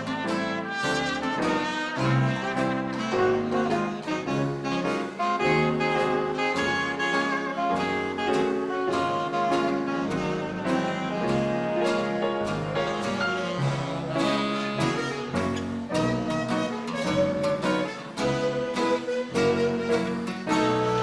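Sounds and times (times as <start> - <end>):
big band dance music: 0.0 - 21.0.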